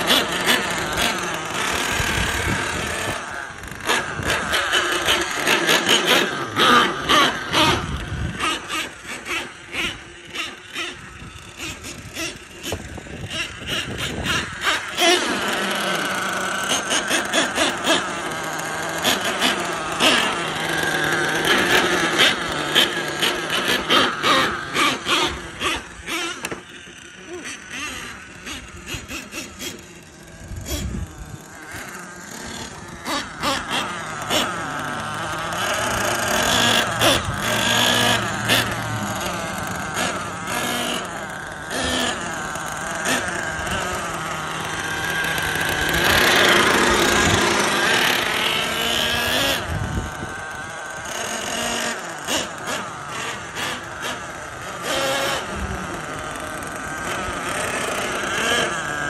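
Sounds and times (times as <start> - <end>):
rc truck engine revving: 0.0 - 59.0.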